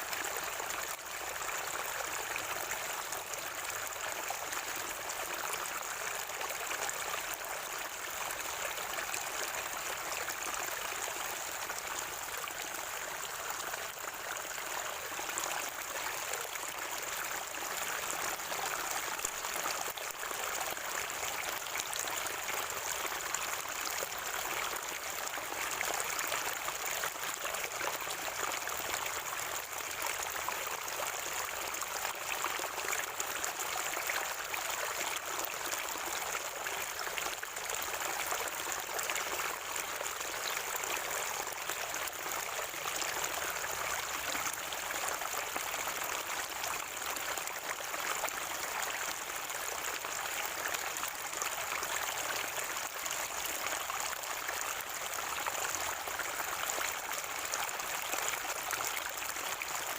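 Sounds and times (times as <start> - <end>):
spring water gurgling: 0.0 - 59.9.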